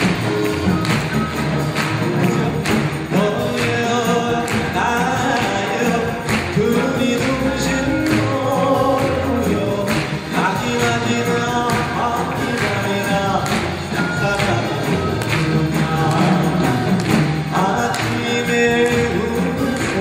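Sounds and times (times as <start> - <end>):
traditional orchestra playing: 0.0 - 20.0
man singing into microphone: 3.0 - 20.0.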